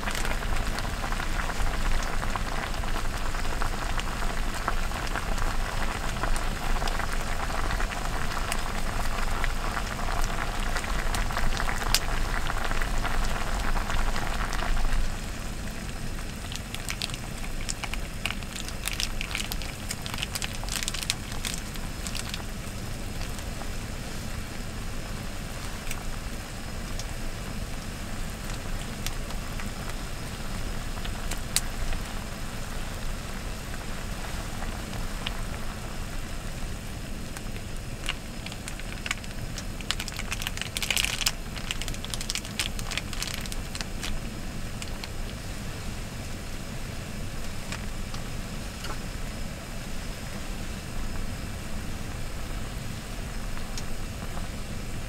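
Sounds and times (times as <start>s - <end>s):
broth boiling and bubbling: 0.0s - 55.0s.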